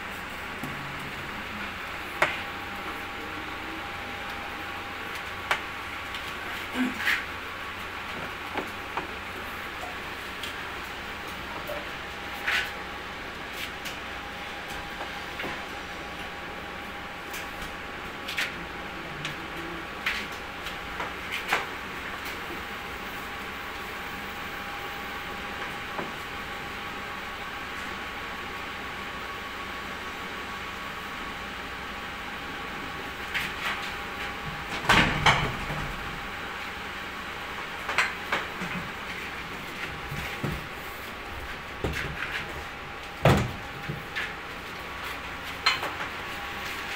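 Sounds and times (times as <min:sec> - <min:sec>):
steady mechanical hum: 0:00.0 - 0:46.9.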